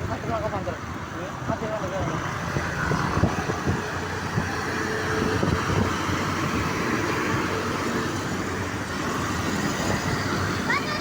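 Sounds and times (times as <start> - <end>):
bus engine running: 0.0 - 11.0
road traffic noise: 0.0 - 11.0.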